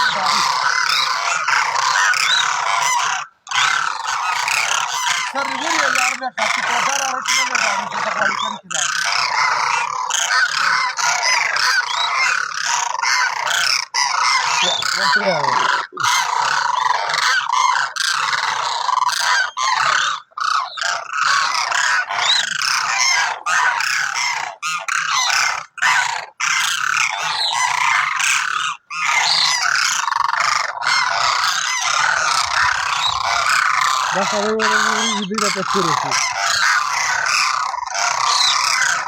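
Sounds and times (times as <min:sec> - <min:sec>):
cranes calling: 0:00.0 - 0:39.0.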